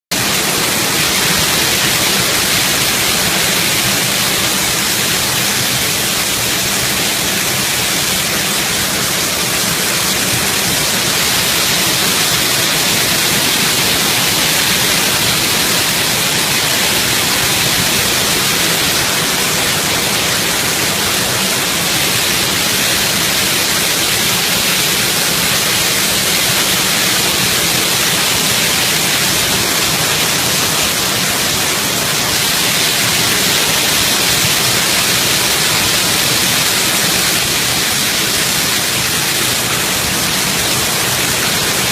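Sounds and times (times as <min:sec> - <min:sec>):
waterfall rushing: 0:00.1 - 0:41.9.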